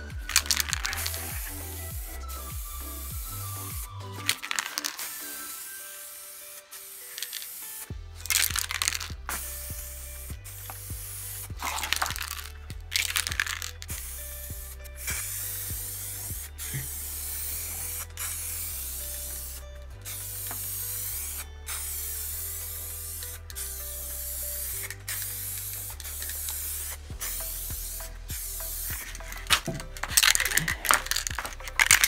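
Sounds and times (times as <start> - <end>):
instrumental music with bass line: 0.0 - 5.0, 7.2 - 32.0
spray paint can hissing: 0.0 - 32.0.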